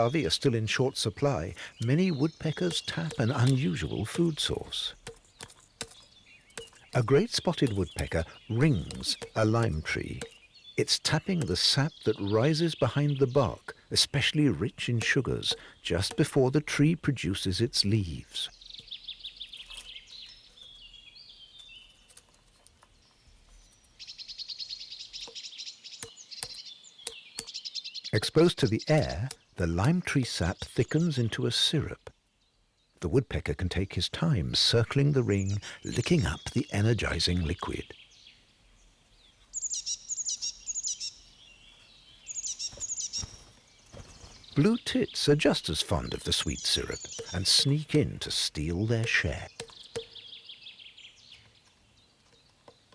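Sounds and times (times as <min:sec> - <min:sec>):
woodpecker tapping bark: 0:00.0 - 0:22.9, 0:23.5 - 0:31.2, 0:39.4 - 0:50.8, 0:51.6 - 0:52.9
songbirds singing: 0:00.0 - 0:52.9.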